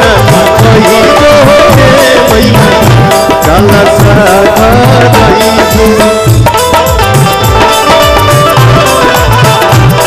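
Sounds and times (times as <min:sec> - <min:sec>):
band playing devotional melody: 0:00.0 - 0:10.0
hand drum beat: 0:00.0 - 0:10.0.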